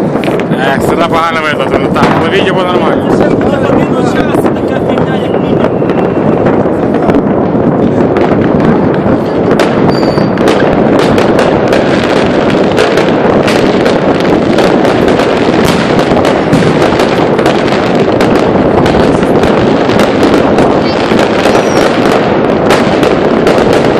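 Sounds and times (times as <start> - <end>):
fireworks and firecrackers banging: 0.0 - 23.9
sharp cracks: 0.0 - 23.9.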